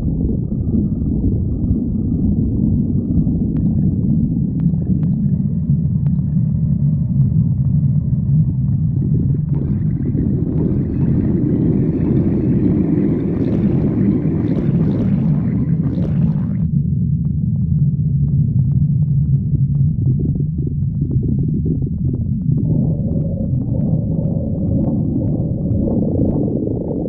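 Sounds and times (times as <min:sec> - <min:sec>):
stomach gurgling: 0:00.0 - 0:27.0
stomach rumbling: 0:00.0 - 0:27.0.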